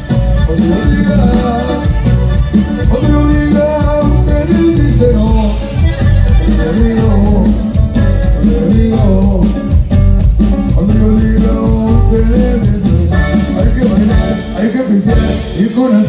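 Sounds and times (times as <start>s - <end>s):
live cumbia band playing: 0.0s - 16.0s.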